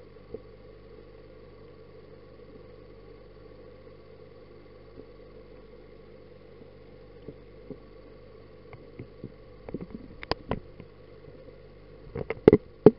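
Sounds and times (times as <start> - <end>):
aquarium pump motor humming: 0.0 - 12.9.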